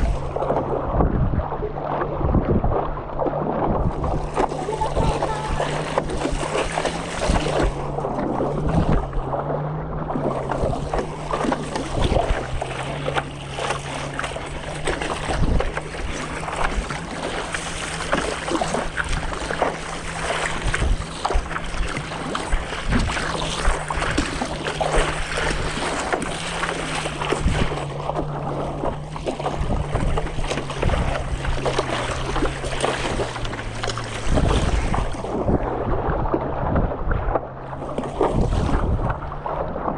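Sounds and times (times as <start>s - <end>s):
low engine hum: 0.0s - 39.9s
water splashing and sloshing: 0.0s - 39.9s
wind on microphone: 0.0s - 39.9s.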